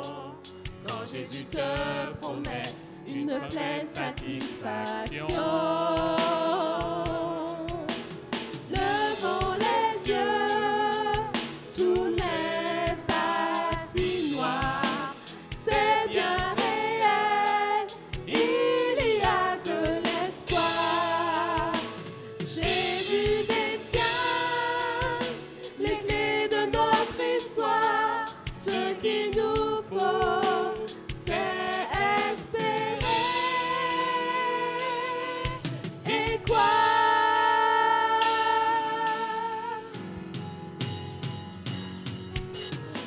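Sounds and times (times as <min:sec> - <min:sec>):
gospel singing in harmony: 0:00.0 - 0:40.4
steady drum beat: 0:00.0 - 0:43.0.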